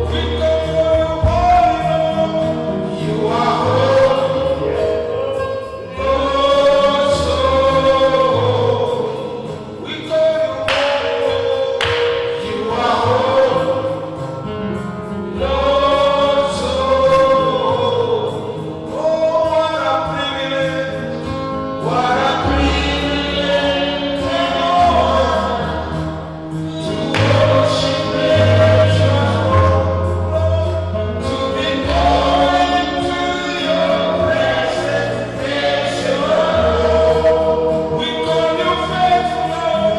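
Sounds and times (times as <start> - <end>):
band with bass notes: 0.0 - 39.9
gospel choir singing: 0.0 - 39.9.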